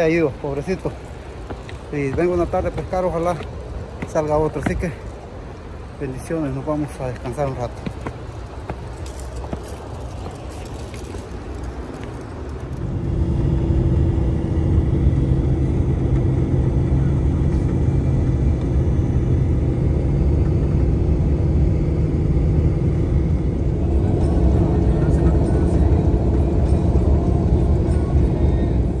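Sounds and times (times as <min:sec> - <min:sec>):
car engine rumble: 0:00.0 - 0:29.0.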